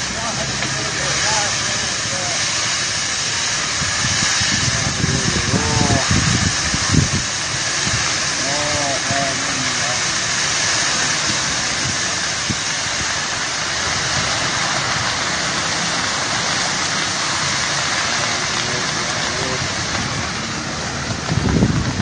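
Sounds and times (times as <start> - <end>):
low rumbling: 0.0 - 22.0
wildfire burning: 0.0 - 22.0.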